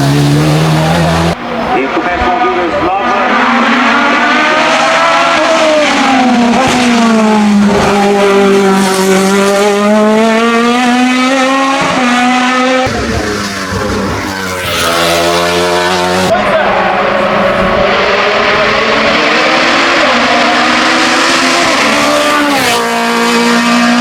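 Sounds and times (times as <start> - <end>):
race car engine under load: 0.0 - 24.0.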